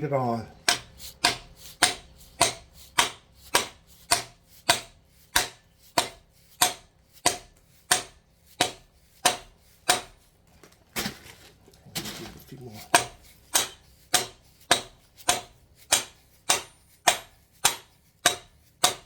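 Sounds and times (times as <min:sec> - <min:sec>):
plastic hammer striking metal: 0:00.6 - 0:10.2, 0:12.9 - 0:19.0.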